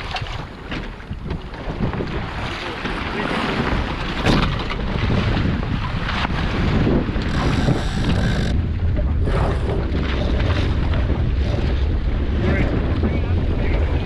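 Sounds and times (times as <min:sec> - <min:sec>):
gusty wind buffeting microphone: 0:00.0 - 0:14.0
water rushing along hull: 0:00.0 - 0:14.0.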